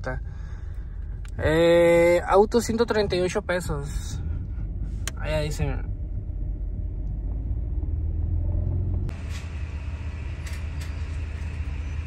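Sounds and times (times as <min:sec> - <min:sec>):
car rolling rumble: 0:00.0 - 0:12.0.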